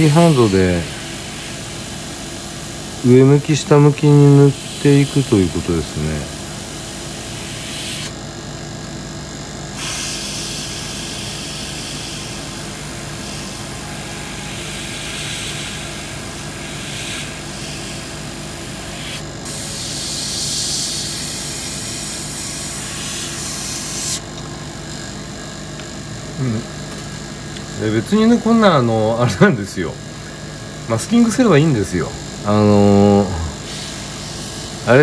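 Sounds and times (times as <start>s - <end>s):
airbrush hissing: 0.0s - 8.1s, 9.7s - 25.1s, 30.2s - 35.0s
steady low hum: 0.0s - 35.0s.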